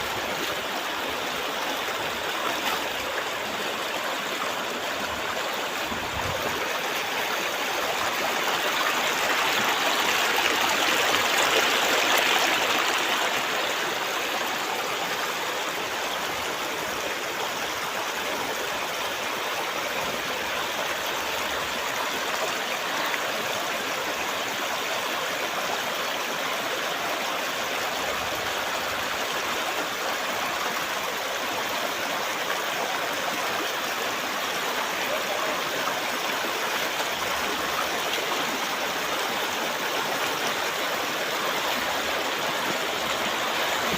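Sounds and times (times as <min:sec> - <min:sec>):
river water over stones: 0:00.0 - 0:43.9.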